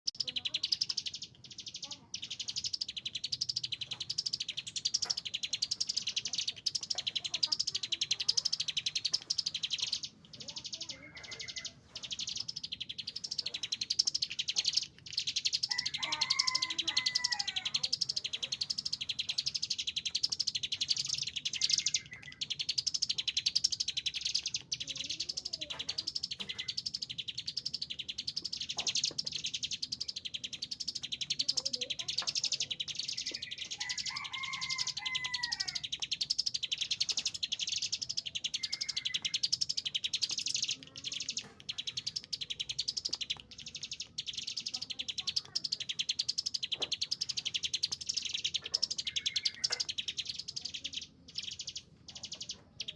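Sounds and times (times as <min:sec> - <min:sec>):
bird singing rapid high trill: 0:00.1 - 0:52.9.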